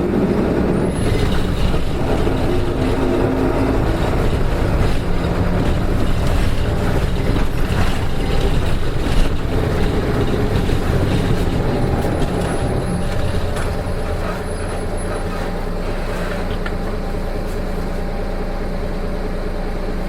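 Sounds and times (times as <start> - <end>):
bus diesel engine droning: 0.0 - 20.0.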